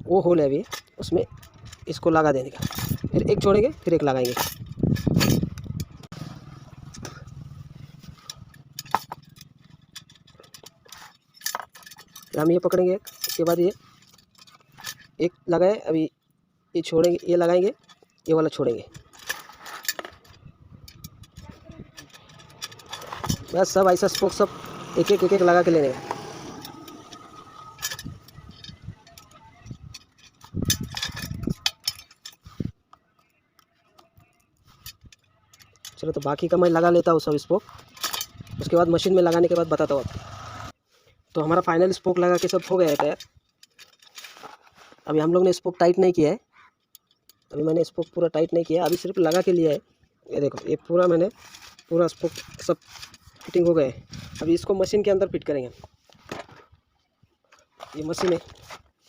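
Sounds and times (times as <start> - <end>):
metallic clicks of spokes: 0.0 - 56.8.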